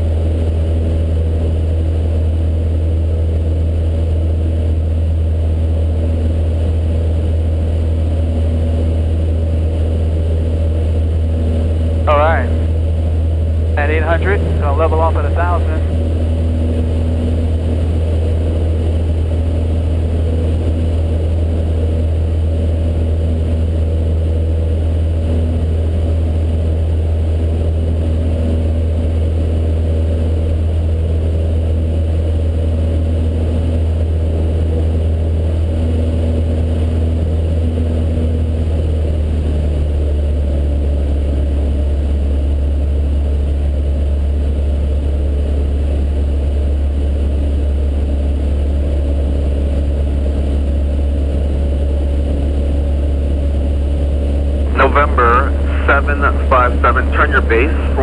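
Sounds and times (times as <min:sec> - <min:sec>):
aircraft engine droning in cabin: 0:00.0 - 0:58.0.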